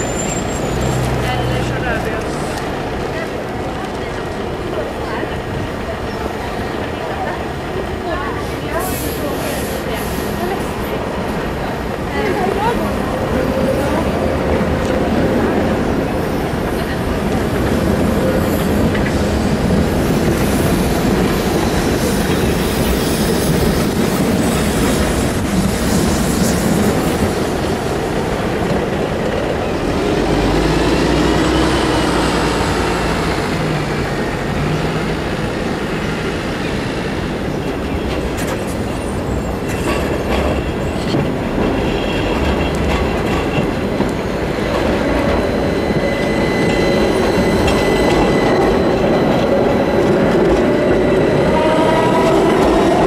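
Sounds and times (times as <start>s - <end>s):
tram wheel squeal: 0.0s - 3.2s, 8.2s - 53.0s
bus engine rumbling: 0.0s - 53.0s
rolling traffic noise: 0.0s - 53.0s
tram wheels clacking over rails: 0.0s - 53.0s.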